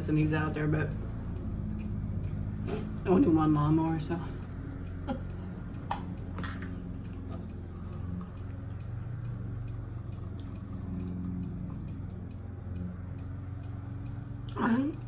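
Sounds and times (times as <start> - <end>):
faint regular ticking: 0.0 - 15.0.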